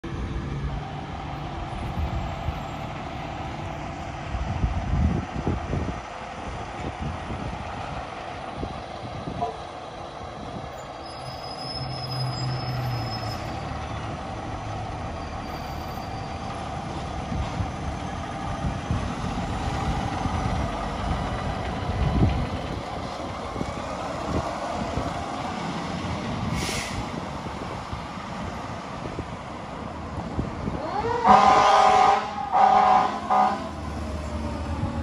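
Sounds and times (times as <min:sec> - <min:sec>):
fire engine diesel engine: 0:00.0 - 0:35.0.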